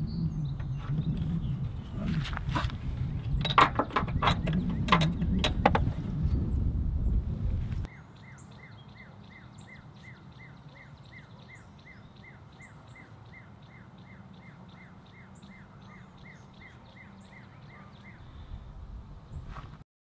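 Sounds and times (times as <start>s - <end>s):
bird chirping: 0.0s - 2.2s, 3.2s - 7.2s, 7.8s - 18.6s.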